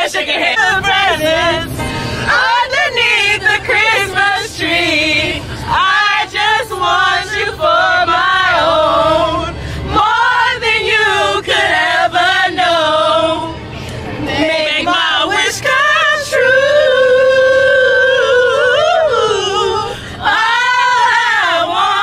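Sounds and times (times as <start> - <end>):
young women singing together: 0.0 - 22.0.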